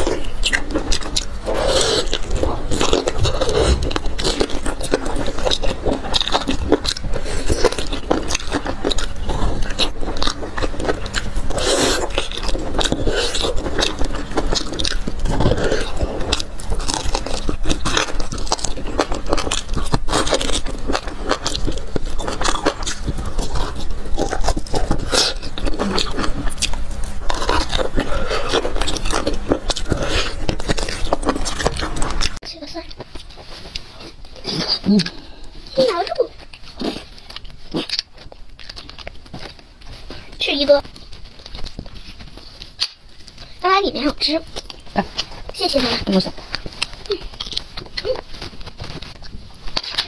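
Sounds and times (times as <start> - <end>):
wet eating and slurping: 0.0 - 50.0.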